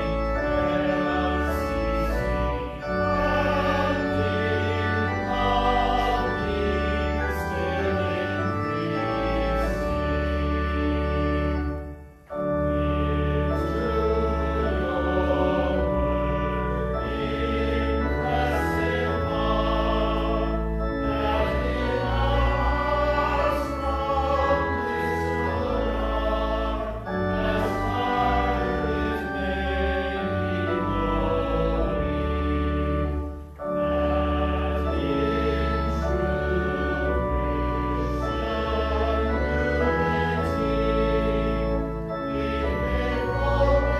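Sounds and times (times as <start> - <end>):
organ chords: 0.0 - 43.9
voices singing a hymn: 0.0 - 43.9.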